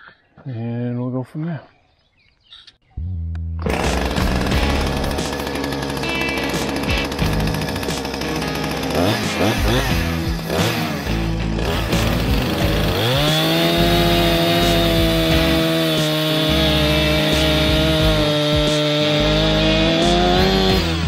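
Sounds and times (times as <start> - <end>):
chainsaw cutting wood: 3.6 - 21.0.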